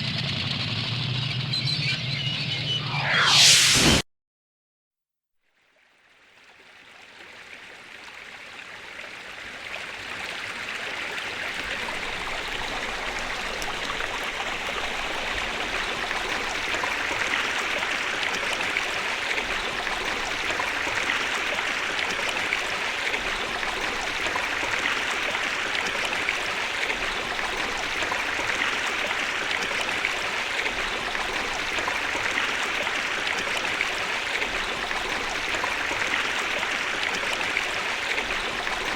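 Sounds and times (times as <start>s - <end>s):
rushing water: 6.3s - 38.9s.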